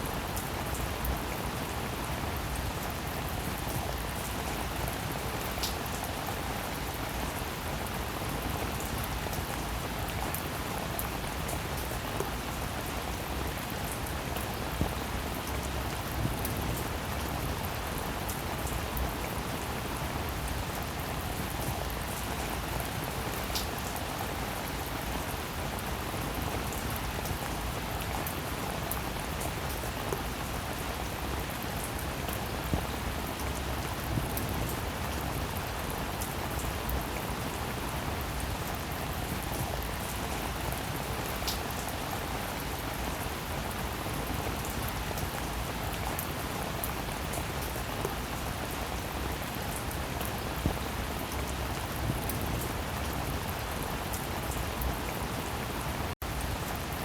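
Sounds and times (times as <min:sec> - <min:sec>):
rain hissing on a surface: 0:00.0 - 0:57.0.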